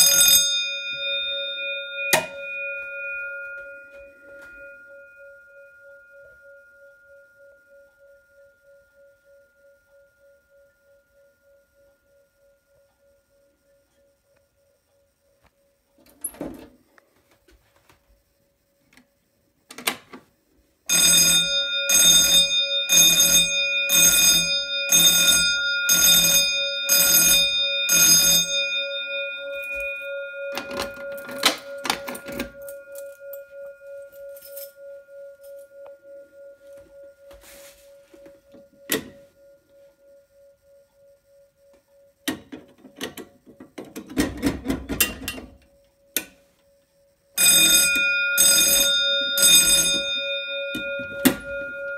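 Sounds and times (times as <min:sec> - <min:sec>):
fire alarm bell ringing: 0:00.0 - 0:16.4, 0:20.9 - 0:51.9.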